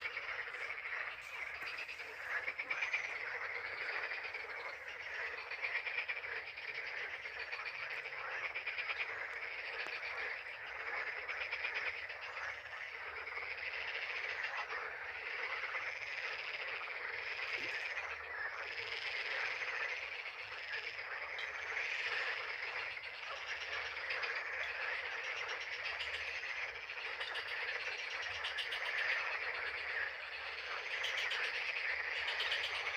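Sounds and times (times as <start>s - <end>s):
chorus of frogs croaking: 0.0s - 32.9s.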